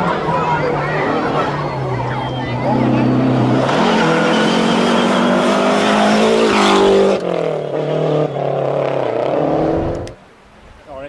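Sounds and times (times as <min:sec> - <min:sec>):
car engine at high revs: 0:00.0 - 0:10.2.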